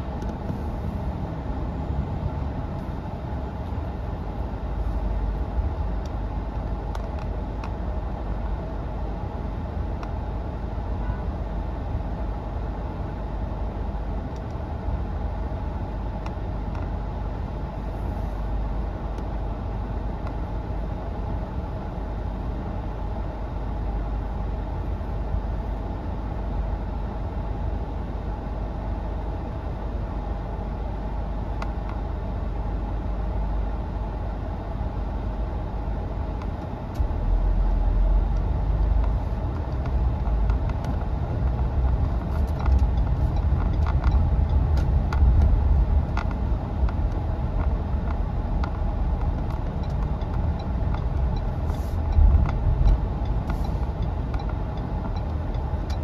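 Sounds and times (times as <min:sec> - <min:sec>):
moving car road and engine noise: 0:00.0 - 0:56.0.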